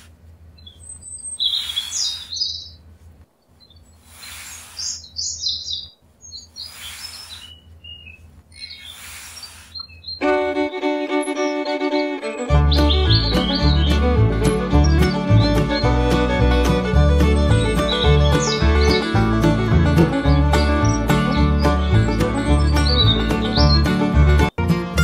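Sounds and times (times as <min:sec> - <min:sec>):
birds chirping: 0:00.0 - 0:24.6.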